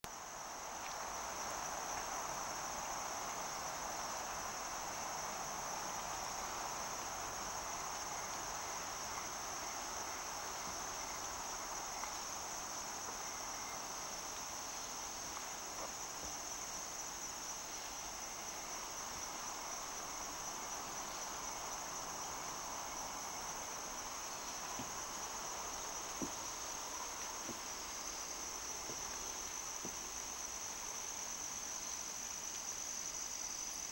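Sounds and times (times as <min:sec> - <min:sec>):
crickets trilling: 0:00.1 - 0:33.9
night insects hiss: 0:00.1 - 0:33.9.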